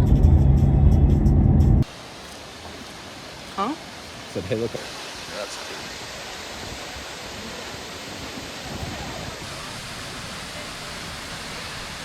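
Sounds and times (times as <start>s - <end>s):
water cascading: 1.8s - 12.0s.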